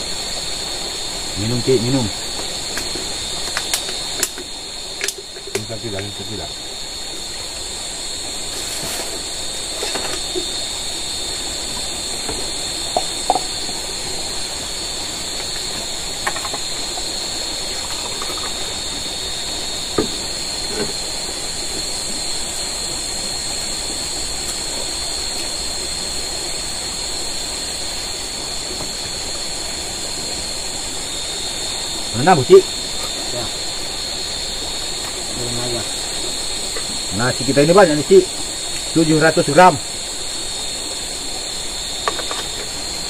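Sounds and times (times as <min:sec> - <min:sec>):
high-pitched background hiss: 0:00.0 - 0:43.0.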